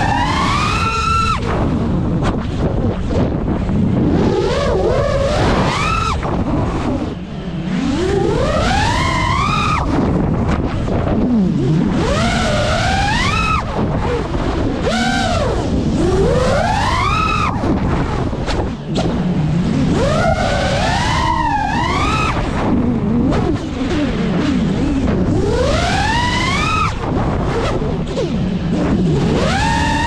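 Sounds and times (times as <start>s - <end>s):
drone motors whining: 0.0s - 30.0s
wind on microphone: 0.0s - 30.0s.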